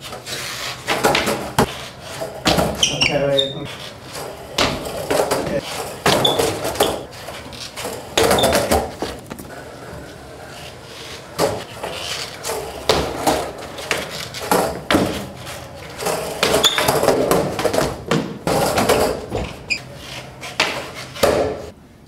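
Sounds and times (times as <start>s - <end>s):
skateboard clacking on floor: 0.0s - 2.8s, 3.8s - 10.2s, 11.0s - 21.8s
skateboard wheels rolling on tiles: 0.0s - 21.8s.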